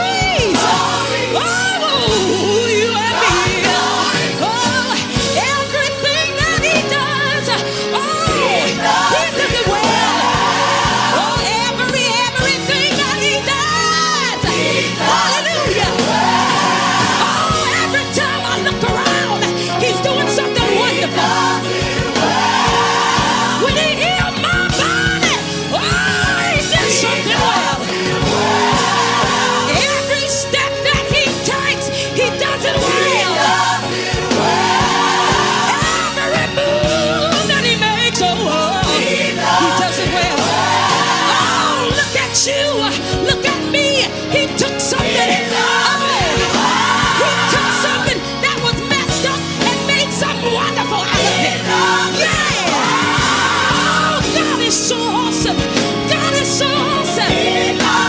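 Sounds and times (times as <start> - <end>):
band accompaniment with beat: 0.0 - 58.0
person singing gospel: 0.0 - 58.0
sustained instrumental backing: 0.0 - 58.0.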